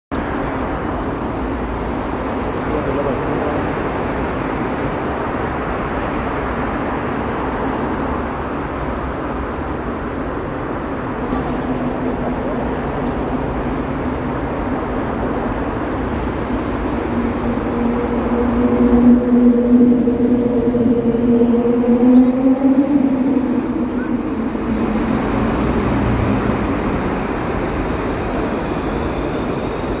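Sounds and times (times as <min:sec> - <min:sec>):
metro station platform noise: 0:00.1 - 0:30.0
train hum: 0:00.1 - 0:30.0.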